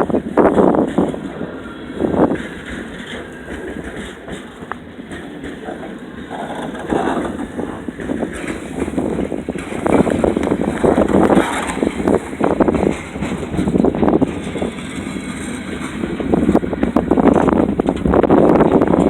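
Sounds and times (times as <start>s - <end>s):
train passing: 0.0s - 19.0s
wind buffeting microphone: 0.0s - 19.0s.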